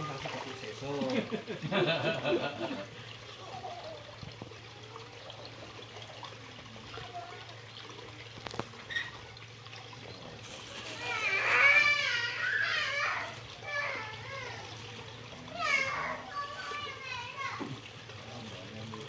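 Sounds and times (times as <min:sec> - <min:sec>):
faint water trickle: 0:00.0 - 0:19.0.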